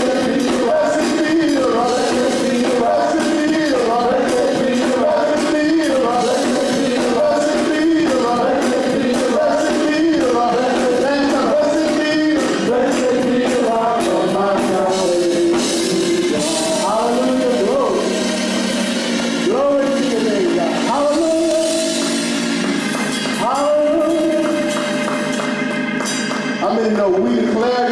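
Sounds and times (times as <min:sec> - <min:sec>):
voices singing: 0:00.0 - 0:22.4
band with drums and cymbals: 0:00.0 - 0:27.9.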